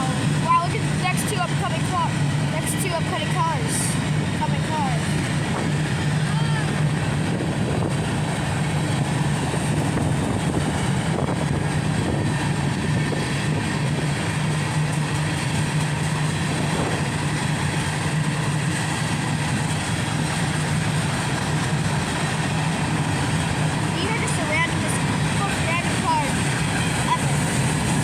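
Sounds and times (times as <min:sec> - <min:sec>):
freight train wheels rumbling on rail: 0:00.0 - 0:28.0.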